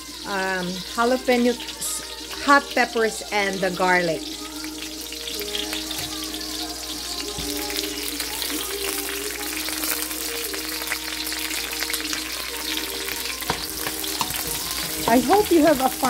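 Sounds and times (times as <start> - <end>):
soft music: 0.0 - 16.0
vegetables sizzling in oil: 0.0 - 16.0.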